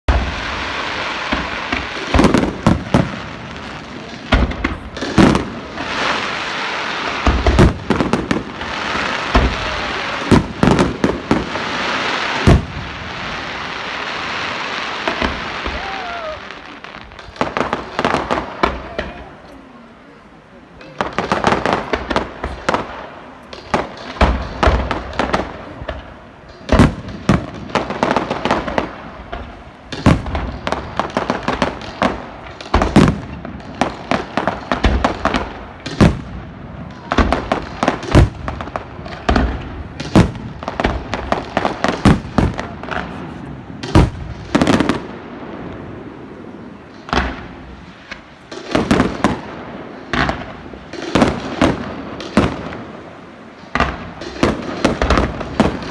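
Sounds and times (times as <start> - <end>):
fireworks bangs and crackles: 0.1 - 55.9.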